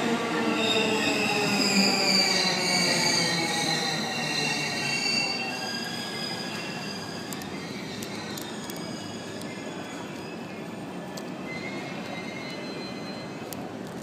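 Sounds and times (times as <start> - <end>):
train wheels squealing on rails: 0.0 - 14.0.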